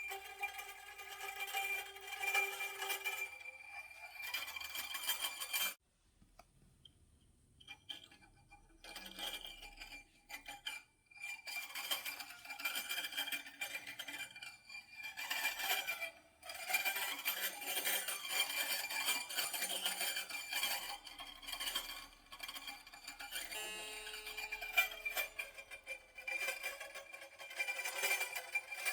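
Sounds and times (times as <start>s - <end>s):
metallic clinking and scraping strings: 0.0s - 5.8s, 7.7s - 28.9s.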